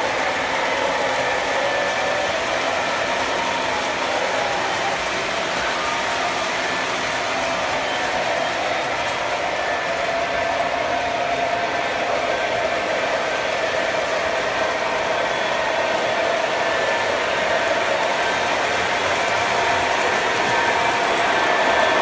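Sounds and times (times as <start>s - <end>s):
wheels rolling on rails: 0.0s - 22.0s.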